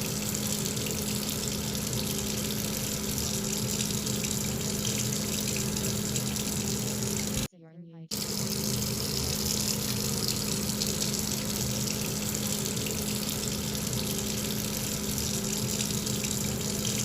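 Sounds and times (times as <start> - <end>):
running water rushing: 0.0 - 7.5, 8.2 - 17.0
constant low hum: 0.0 - 17.0.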